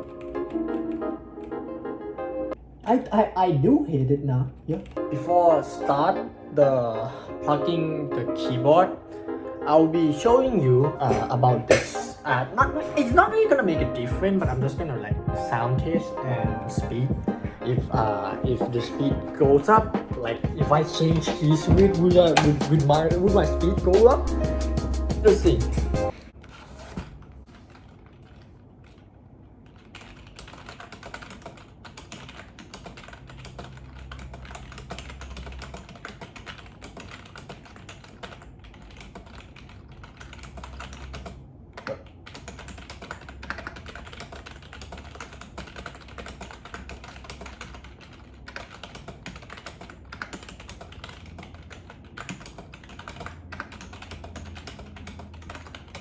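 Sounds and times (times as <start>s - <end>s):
rapid keyboard typing: 0.0s - 1.6s, 4.3s - 6.1s, 9.9s - 26.6s, 27.2s - 56.0s.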